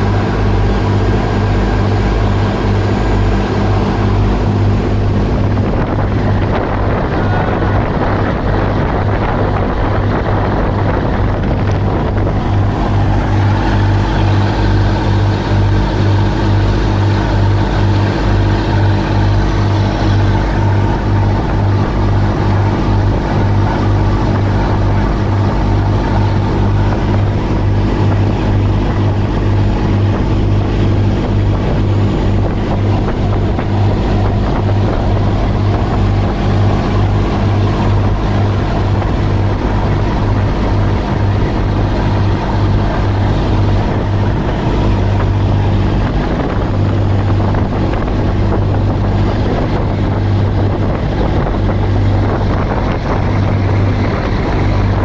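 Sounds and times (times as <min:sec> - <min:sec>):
boat engine droning: 0:00.0 - 0:55.0
water rushing from wake: 0:00.0 - 0:55.0
wind buffeting microphone: 0:00.0 - 0:55.0.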